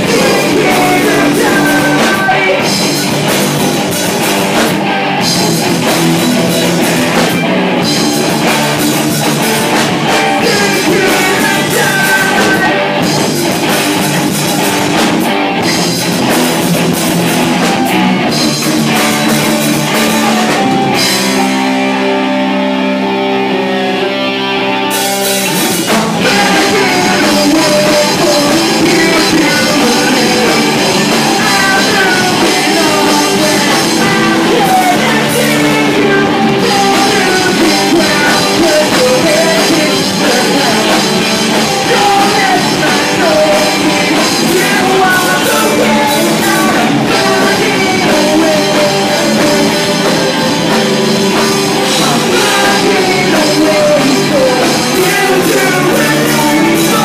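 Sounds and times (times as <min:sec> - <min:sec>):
person singing: 0:00.0 - 0:14.8, 0:23.5 - 0:57.0
drum kit: 0:00.0 - 0:57.0
electric guitars: 0:00.0 - 0:57.0.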